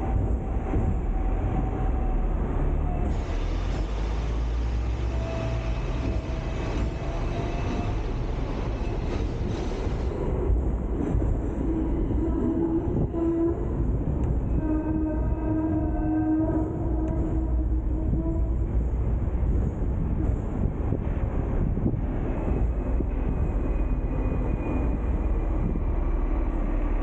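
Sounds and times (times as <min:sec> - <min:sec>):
tram wheels rumbling on rails: 0:00.0 - 0:27.0.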